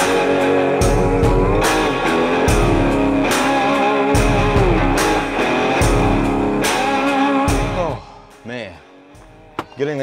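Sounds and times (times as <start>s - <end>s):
rock music with guitar: 0.0s - 9.7s.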